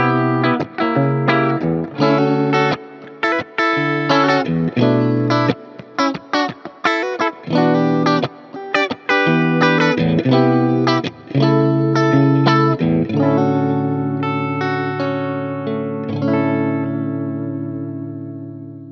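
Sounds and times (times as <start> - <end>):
electric guitar chord stabs: 0.0 - 18.9.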